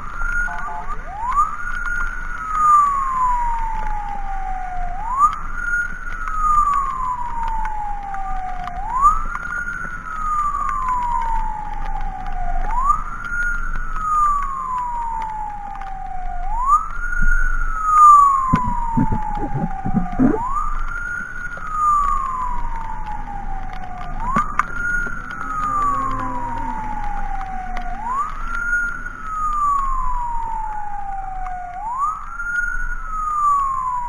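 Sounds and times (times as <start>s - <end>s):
emergency siren wailing: 0.0s - 34.0s.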